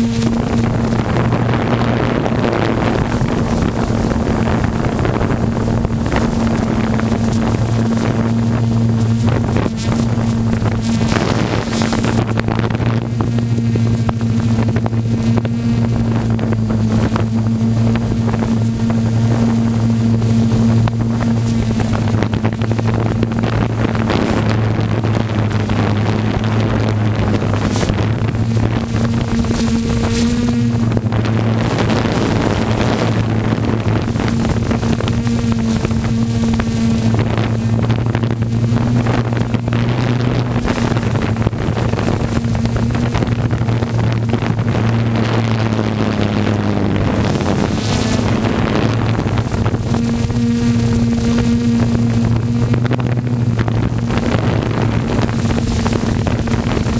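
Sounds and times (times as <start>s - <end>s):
drone propellers humming: 0.0s - 56.9s
wind rushing over microphone: 0.0s - 56.9s.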